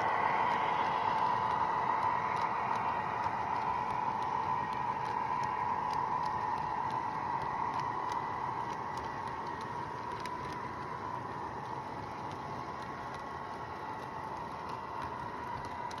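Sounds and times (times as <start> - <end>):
model train whine: 0.0 - 16.0
train rumble: 0.0 - 16.0.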